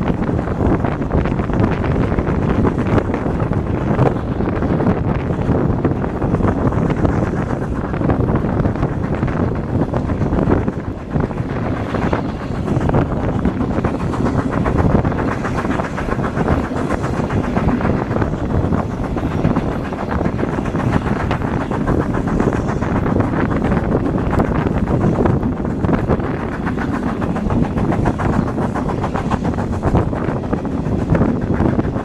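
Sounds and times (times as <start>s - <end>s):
train rumble and clatter on rails: 0.0s - 32.0s
wind buffeting microphone: 0.0s - 32.0s.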